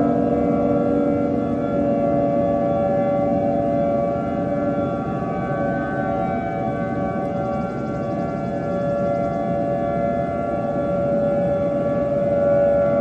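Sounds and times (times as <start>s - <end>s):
civil defense siren: 0.0s - 13.0s.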